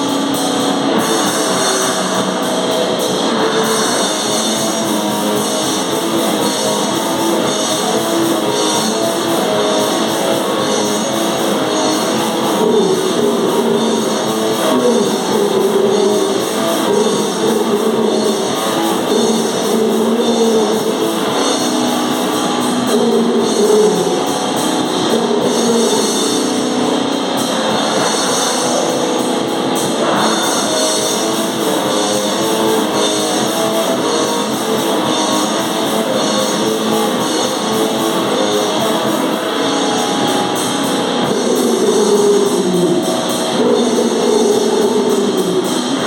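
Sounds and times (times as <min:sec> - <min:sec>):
distorted electric guitar: 0:00.0 - 0:46.0
drums: 0:00.0 - 0:46.0.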